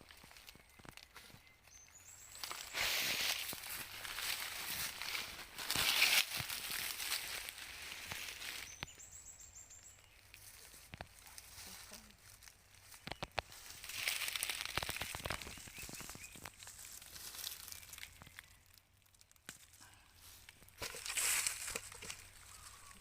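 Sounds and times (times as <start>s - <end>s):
leaves rustling and crackling: 0.0s - 23.0s.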